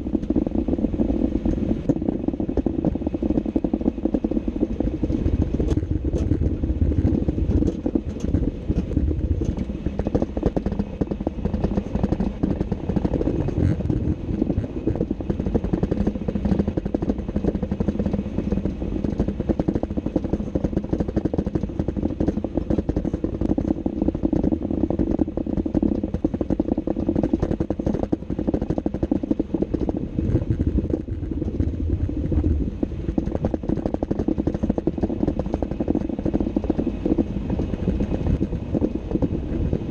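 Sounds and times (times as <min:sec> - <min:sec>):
constant rattling: 0:00.0 - 0:39.9
tyre and drivetrain rumble: 0:00.0 - 0:39.9.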